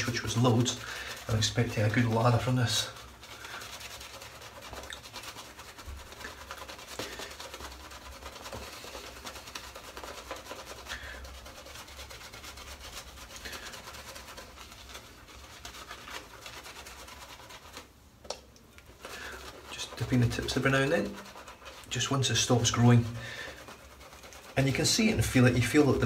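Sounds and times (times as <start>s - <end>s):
shaving brush scrubbing: 0.0s - 17.9s, 18.8s - 26.0s.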